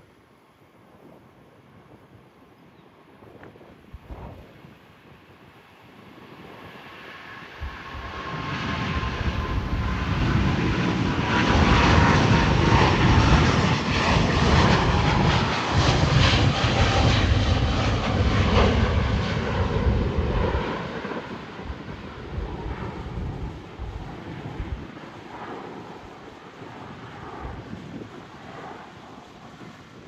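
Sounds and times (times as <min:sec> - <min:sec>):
jet airliner roar: 0:03.2 - 0:30.0.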